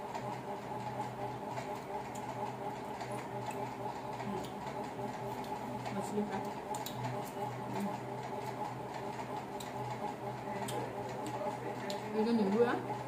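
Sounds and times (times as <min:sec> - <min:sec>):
people eating by hand: 0:01.6 - 0:13.0.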